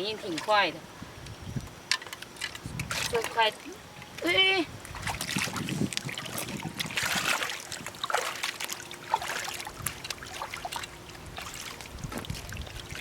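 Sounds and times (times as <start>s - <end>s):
seawater trickling among rocks: 2.2s - 13.0s.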